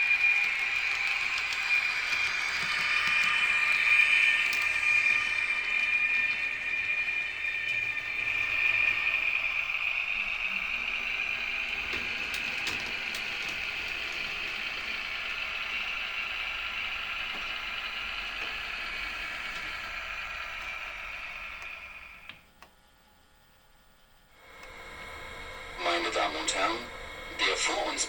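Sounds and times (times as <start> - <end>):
model train running on track: 0.0 - 22.3, 24.4 - 28.0.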